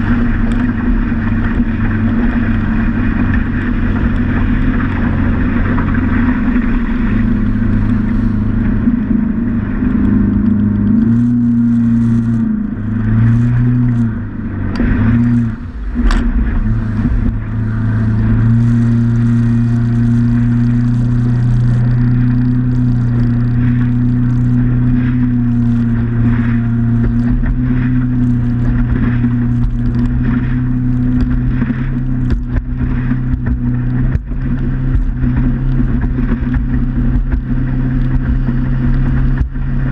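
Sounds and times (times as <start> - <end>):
motorboat engine running: 0.0 - 39.9
rushing water: 0.0 - 39.9
wind noise: 0.0 - 39.9.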